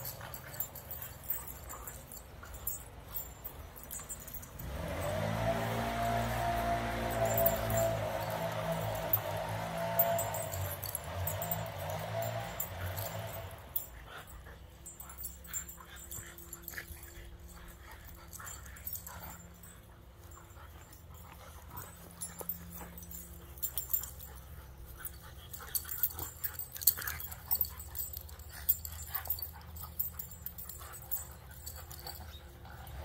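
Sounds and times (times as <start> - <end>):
puppies play-wrestling: 0.0 - 33.0.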